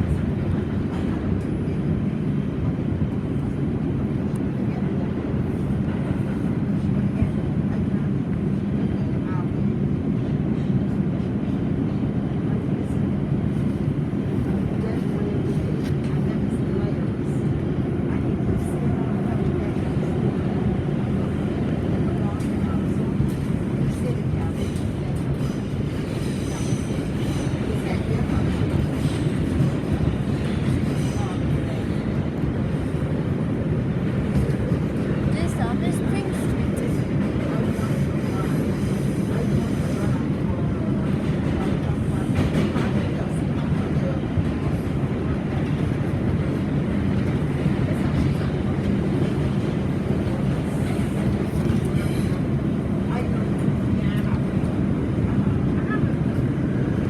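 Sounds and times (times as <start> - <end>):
subway wheels rumbling on rails: 0.0 - 57.0.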